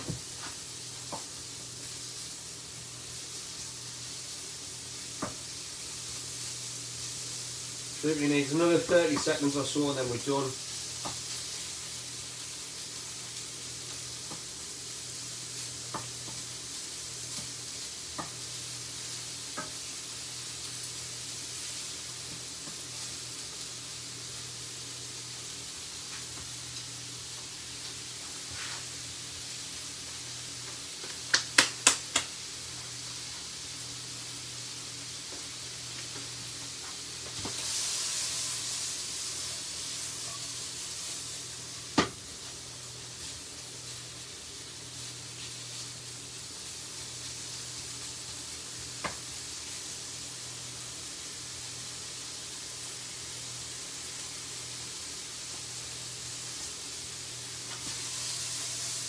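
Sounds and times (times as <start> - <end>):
steak sizzling in a frying pan: 0.0 - 59.0.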